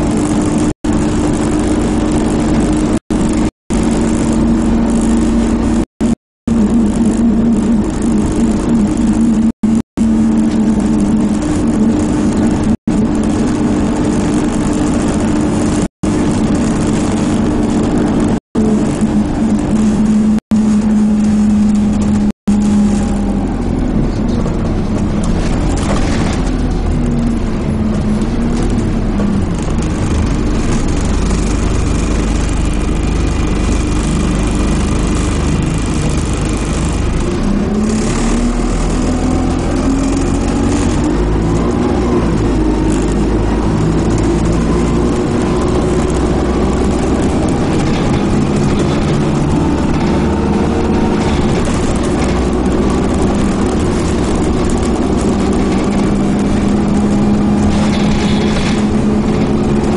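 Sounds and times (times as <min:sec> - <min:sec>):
bus diesel engine: 0:00.0 - 0:59.9
road and tyre noise: 0:00.0 - 0:59.9.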